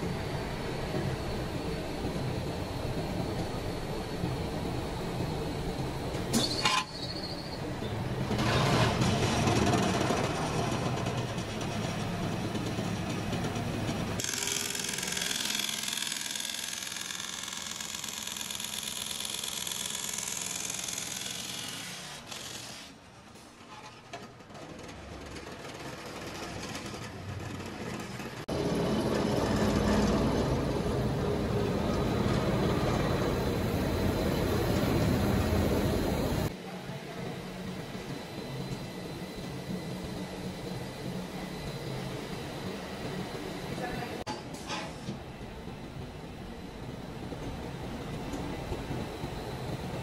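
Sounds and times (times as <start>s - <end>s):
factory machinery running: 0.0s - 50.0s.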